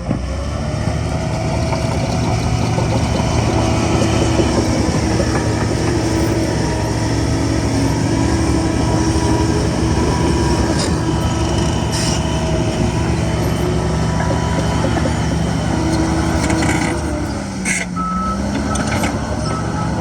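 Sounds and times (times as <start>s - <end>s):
bulldozer diesel engine running: 0.0s - 20.0s
steel tracks squealing and grinding: 0.9s - 20.0s.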